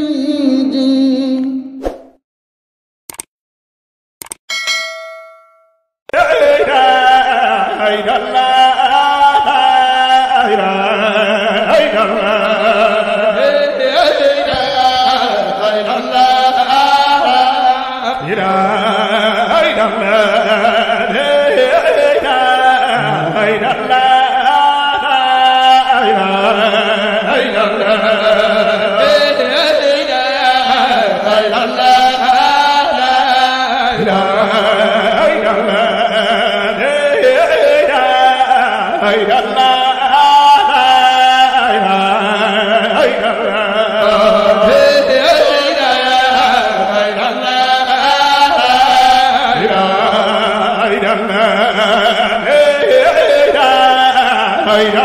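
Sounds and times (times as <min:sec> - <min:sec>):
man chanting religious poem: 0:06.2 - 0:55.0.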